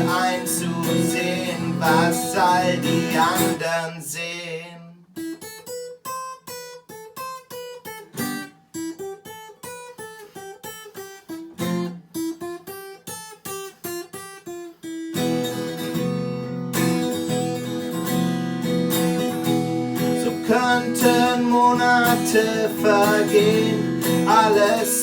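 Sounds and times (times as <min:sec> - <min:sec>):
acoustic guitar picking and strumming: 0:00.0 - 0:25.0.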